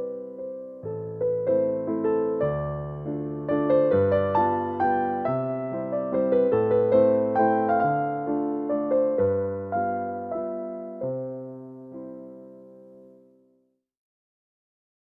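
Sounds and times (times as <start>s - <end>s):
gentle electric piano melody: 0.0s - 13.4s.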